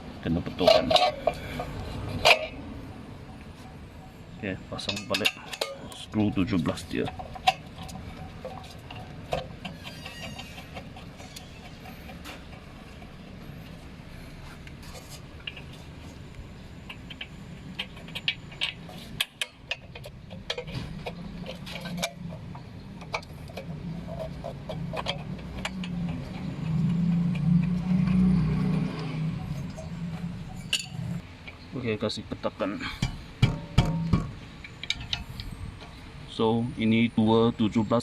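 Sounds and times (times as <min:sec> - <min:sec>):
low workshop hum: 0:00.0 - 0:38.0.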